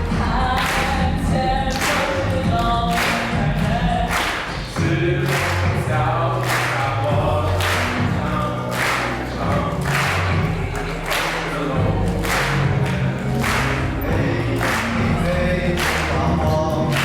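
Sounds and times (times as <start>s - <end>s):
group of voices singing: 0.0s - 17.0s
musical accompaniment: 0.0s - 17.0s
steady struck beat: 0.0s - 17.0s.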